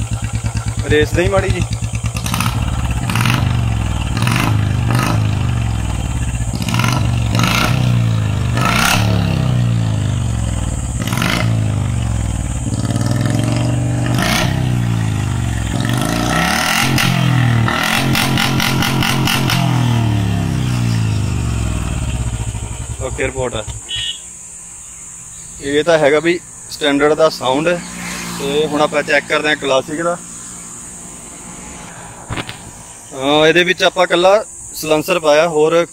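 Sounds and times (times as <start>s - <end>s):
motorcycle engine revving: 0.0s - 33.7s.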